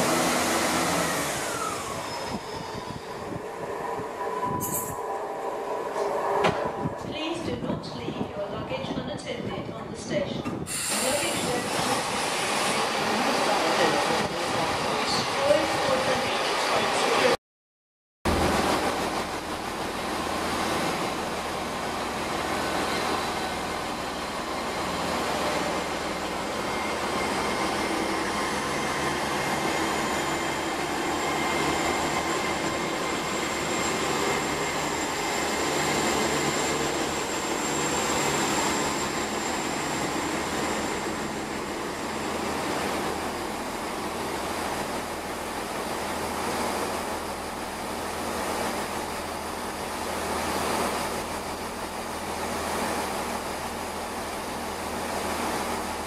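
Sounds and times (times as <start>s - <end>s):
thin high whine: 0.0s - 8.3s, 18.3s - 56.0s
train engine hum: 0.0s - 17.4s, 18.3s - 56.0s.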